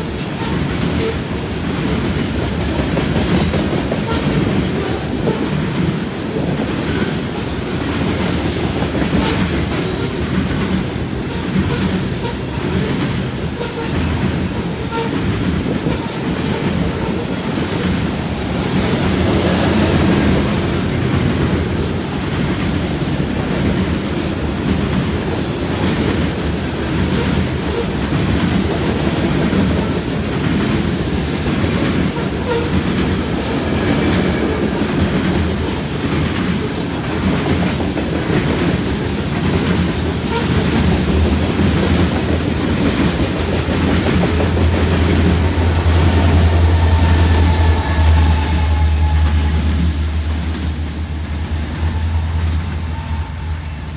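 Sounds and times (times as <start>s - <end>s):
wheels clacking over rail joints: 0.0s - 51.9s
freight train rumbling past: 0.0s - 53.9s.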